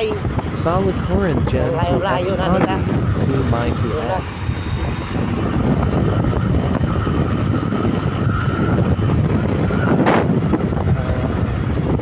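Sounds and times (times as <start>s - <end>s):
motorcycle engine rumble: 0.0s - 12.0s
road noise: 0.0s - 12.0s
wind buffeting microphone: 0.0s - 12.0s.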